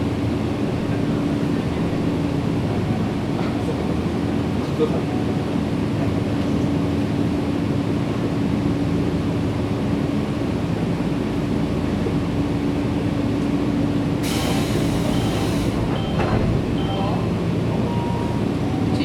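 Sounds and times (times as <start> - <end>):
electric train equipment hum: 0.0 - 19.0.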